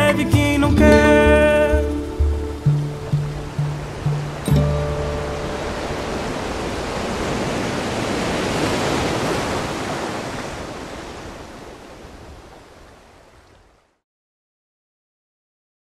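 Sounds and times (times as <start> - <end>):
ocean surf washing onto beach: 0.0 - 14.0.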